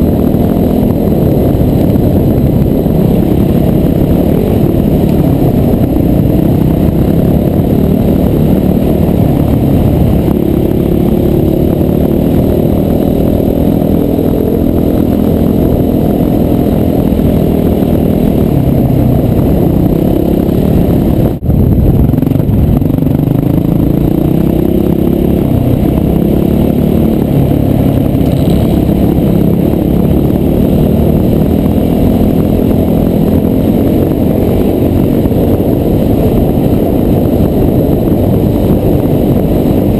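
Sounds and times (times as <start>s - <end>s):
dirt bike engine revving: 0.0s - 21.4s, 22.2s - 39.9s.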